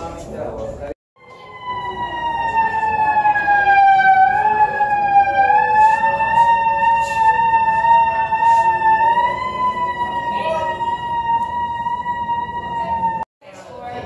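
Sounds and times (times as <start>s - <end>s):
siren wailing: 1.2s - 13.3s.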